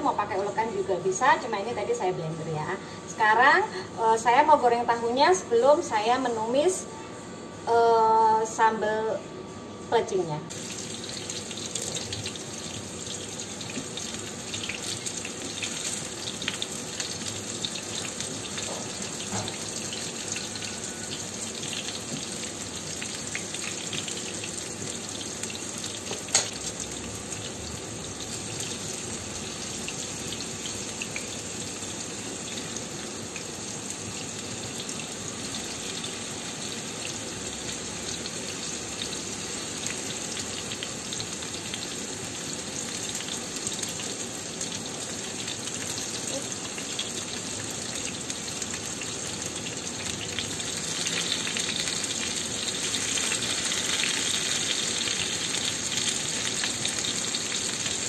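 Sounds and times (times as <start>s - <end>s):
tofu sizzling in hot oil: 10.5s - 58.0s.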